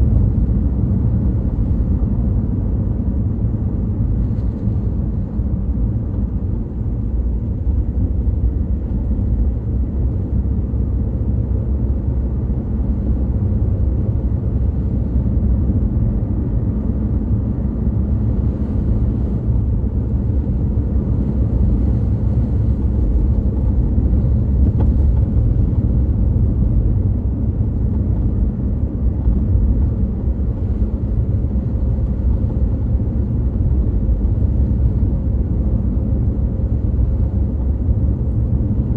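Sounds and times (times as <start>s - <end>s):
car engine rumbling: 0.0s - 38.9s
road noise: 0.0s - 38.9s.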